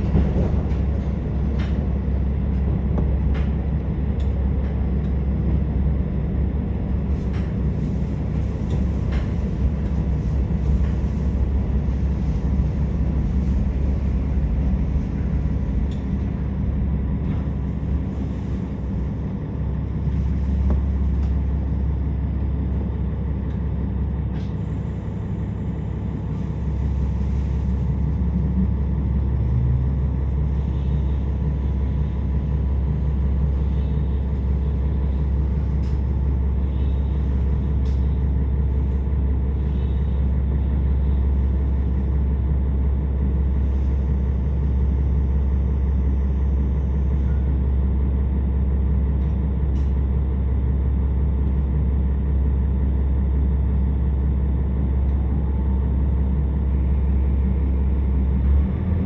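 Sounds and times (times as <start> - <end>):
diesel engine idling hum: 0.0 - 59.0.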